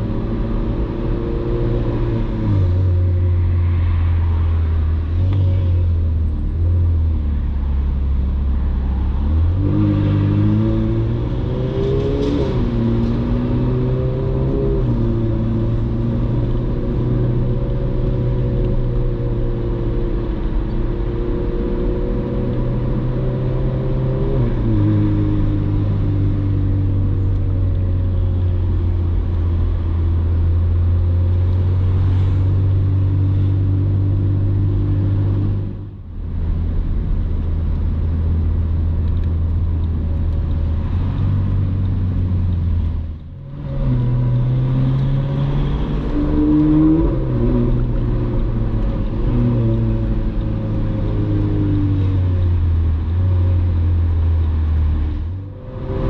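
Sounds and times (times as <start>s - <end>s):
car engine under load: 0.0s - 56.0s.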